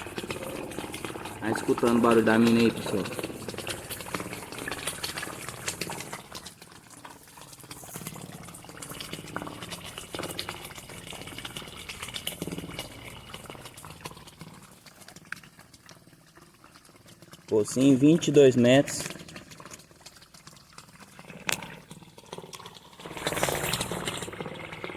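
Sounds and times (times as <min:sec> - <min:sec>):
spring water pouring into well: 0:00.0 - 0:24.9.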